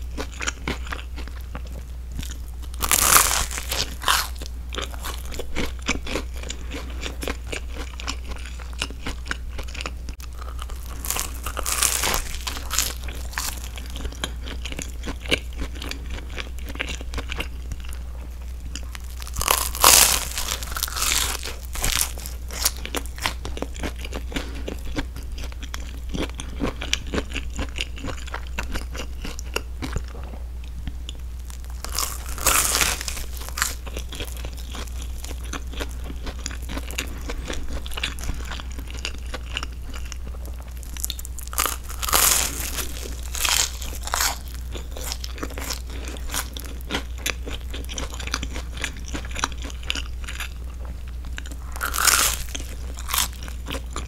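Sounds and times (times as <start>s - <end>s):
toasted bread crunching: 0.0s - 18.0s, 18.7s - 30.2s, 31.4s - 50.6s, 51.4s - 54.0s
moist chewing: 0.4s - 18.0s, 18.7s - 54.0s.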